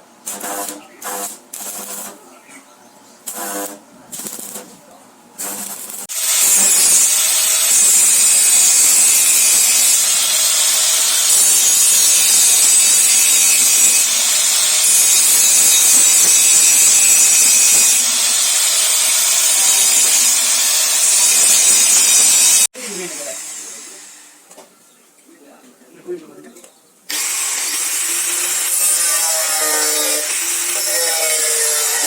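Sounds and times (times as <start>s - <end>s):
power tool on metal: 0.2s - 2.2s, 3.3s - 4.7s, 5.4s - 24.4s, 27.1s - 32.0s.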